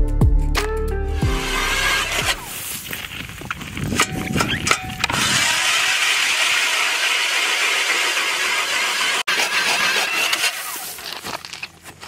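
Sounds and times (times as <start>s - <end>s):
ice auger boring through ice: 1.2s - 12.0s.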